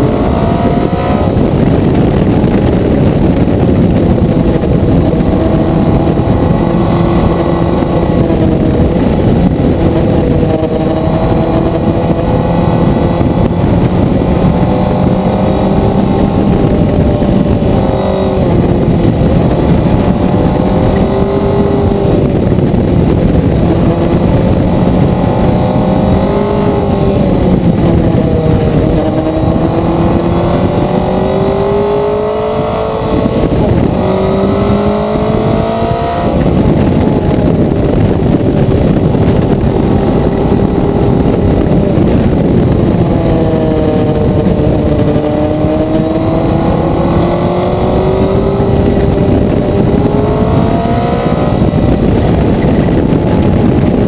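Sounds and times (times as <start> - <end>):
motorcycle engine revving: 0.0 - 54.0
rushing wind noise: 0.0 - 54.0.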